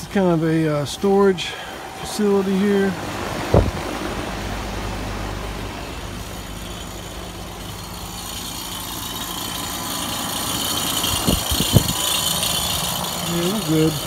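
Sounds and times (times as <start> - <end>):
air conditioning hum and hiss: 0.0 - 14.0.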